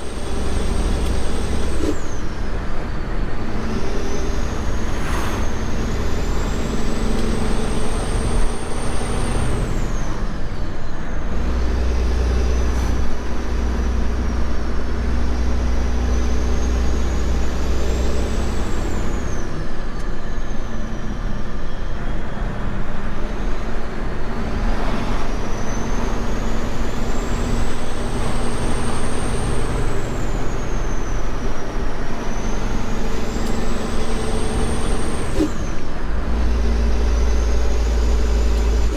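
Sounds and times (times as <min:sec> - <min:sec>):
road noise: 0:00.0 - 0:38.9
truck diesel engine: 0:00.0 - 0:38.9.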